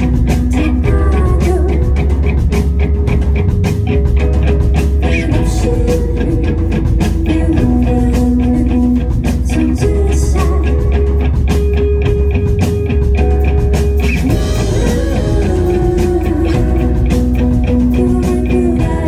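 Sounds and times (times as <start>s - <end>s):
bass guitar: 0.0s - 19.0s
steady drum kit beat: 0.0s - 19.0s.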